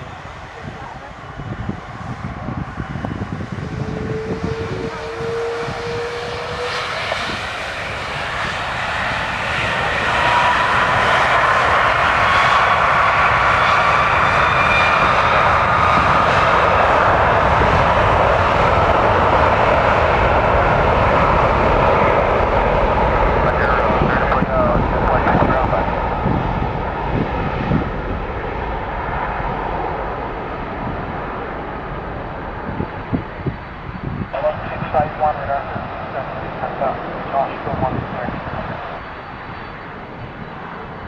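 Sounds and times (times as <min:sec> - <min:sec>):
aircraft engines whining and roaring: 0:00.0 - 0:41.0.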